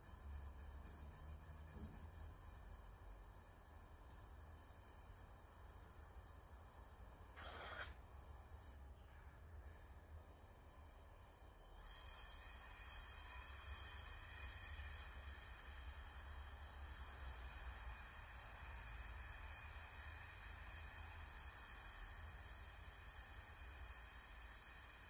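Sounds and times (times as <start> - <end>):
torch flame hissing: 1.8 - 25.0.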